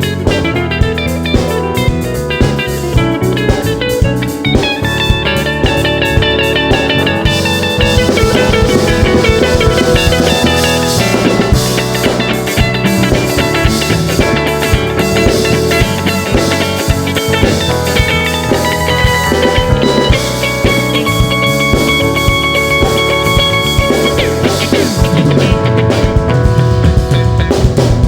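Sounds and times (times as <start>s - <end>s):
drum kit: 0.0s - 28.0s
electric guitar melodic lines: 0.0s - 28.0s.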